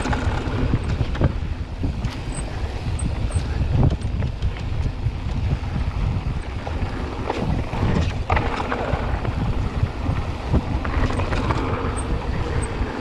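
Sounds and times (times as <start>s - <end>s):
bike rattling clicks and knocks: 0.0s - 13.0s
bike tyres rumbling on dirt: 0.0s - 13.0s
wind on microphone: 0.0s - 13.0s.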